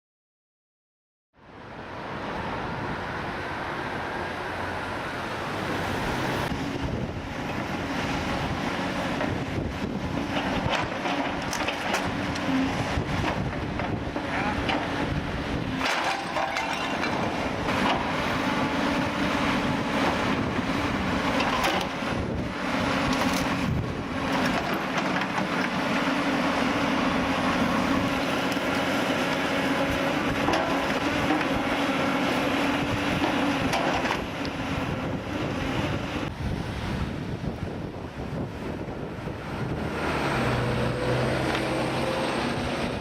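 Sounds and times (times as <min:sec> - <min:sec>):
demolition machine engine: 0:05.9 - 0:43.0.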